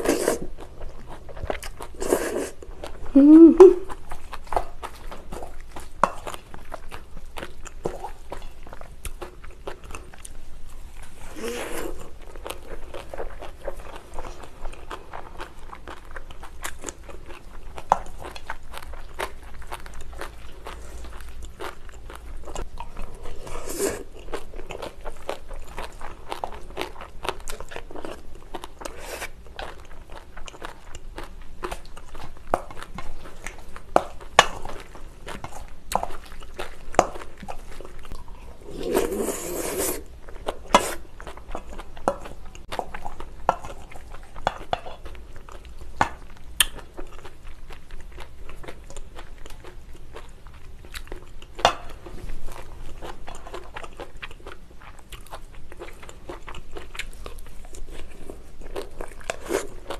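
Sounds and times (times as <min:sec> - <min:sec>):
crunchy chewing: 0:03.8 - 0:59.9.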